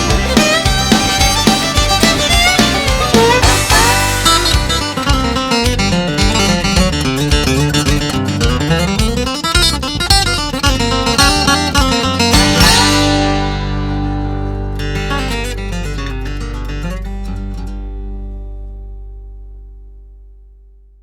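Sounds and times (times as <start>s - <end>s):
picked acoustic guitar: 0.0s - 20.7s
bass line: 0.0s - 21.0s.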